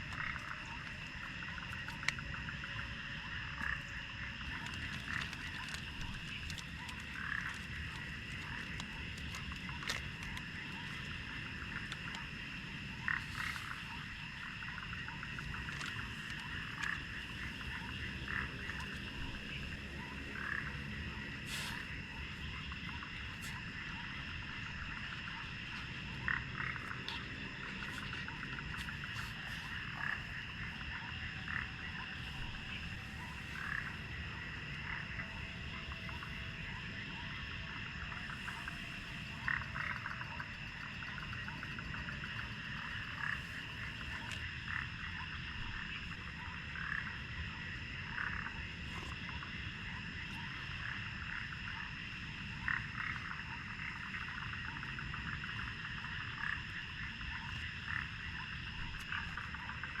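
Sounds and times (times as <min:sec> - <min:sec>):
frogs croaking: 0:00.0 - 1:00.0
night insects droning: 0:00.0 - 1:00.0.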